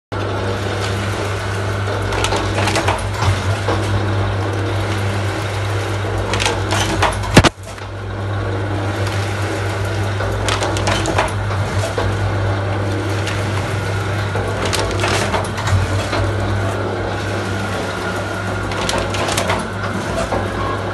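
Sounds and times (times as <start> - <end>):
machine humming: 0.1 - 20.9.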